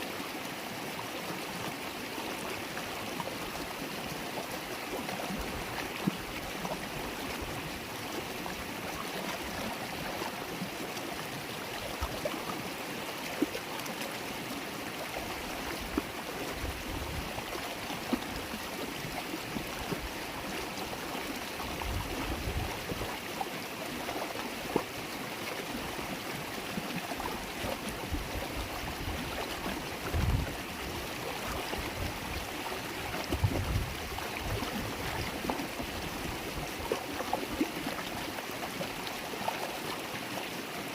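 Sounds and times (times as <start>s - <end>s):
river babbling over stones: 0.0s - 40.9s
small water splashes: 0.1s - 40.9s.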